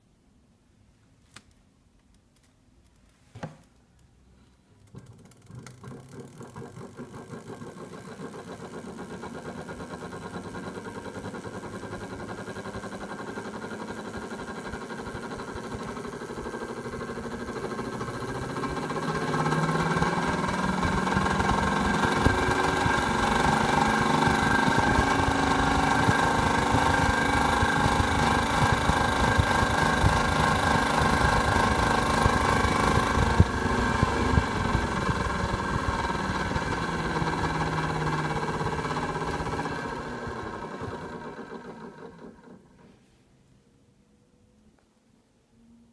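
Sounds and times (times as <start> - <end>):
electric fan motor humming: 4.7 - 42.9.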